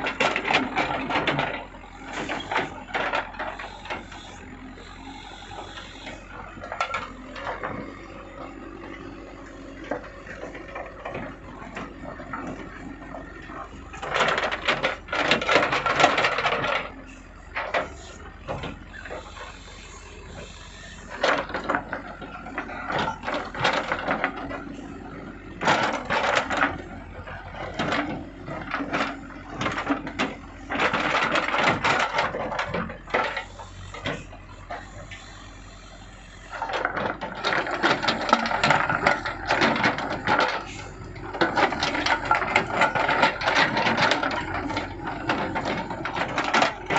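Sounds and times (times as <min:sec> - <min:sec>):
excavator engine running: 0:00.0 - 0:46.9
rattling and scraping: 0:00.0 - 0:46.9.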